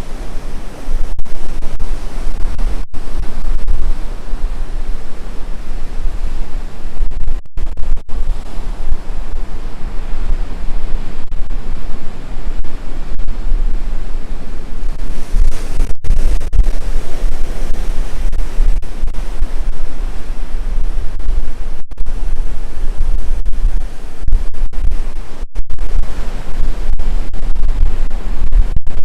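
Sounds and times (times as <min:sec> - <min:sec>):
ocean surf: 0:00.0 - 0:29.0
wind buffeting microphone: 0:00.0 - 0:29.0.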